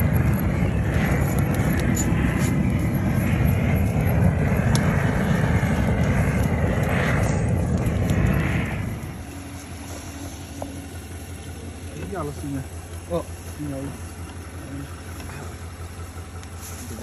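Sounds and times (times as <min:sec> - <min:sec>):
gas blowtorch roaring: 0:00.0 - 0:17.0.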